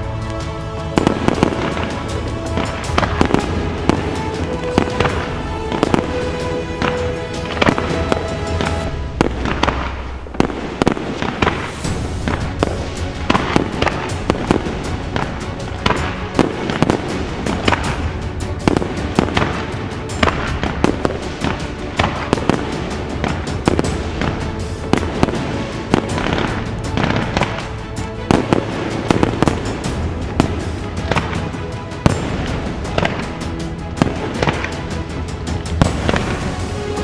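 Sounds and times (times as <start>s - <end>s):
fireworks bursting and crackling: 0.0s - 37.0s
music playing: 0.0s - 37.0s.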